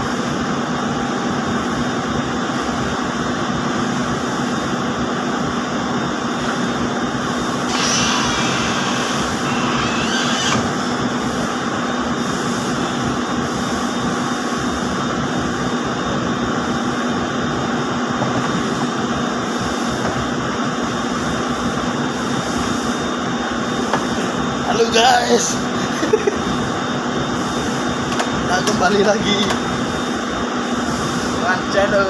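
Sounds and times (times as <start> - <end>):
textile mill machinery running: 0.0 - 32.0.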